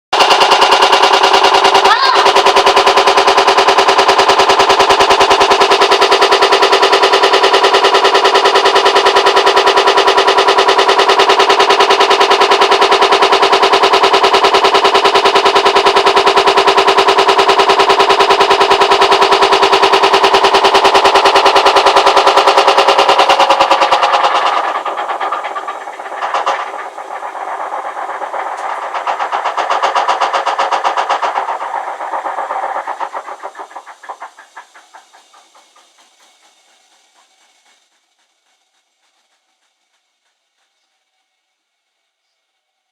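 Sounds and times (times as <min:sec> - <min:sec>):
steady hum: 0:00.2 - 0:36.3
washing machine rattling: 0:00.2 - 0:36.3.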